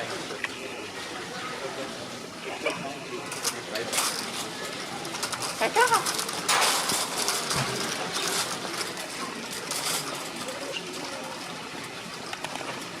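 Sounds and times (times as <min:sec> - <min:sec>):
faint indistinct voices: 0:00.0 - 0:13.0
steady background noise: 0:00.0 - 0:13.0.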